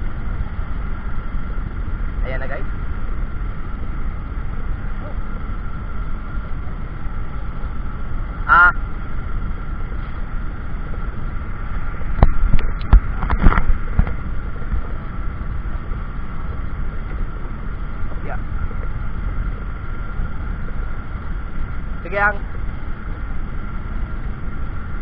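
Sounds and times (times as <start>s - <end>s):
constant high hum: 0.0s - 25.0s
steady low rumble: 0.0s - 25.0s.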